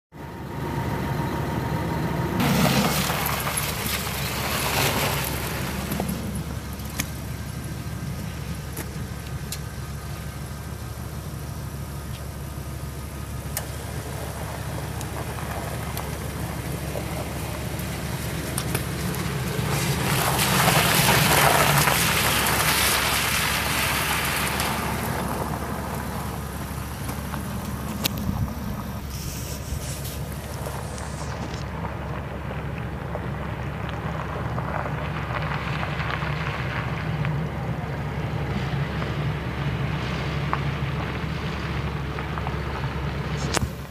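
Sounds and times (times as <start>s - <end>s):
pickup engine running: 0.1s - 43.9s.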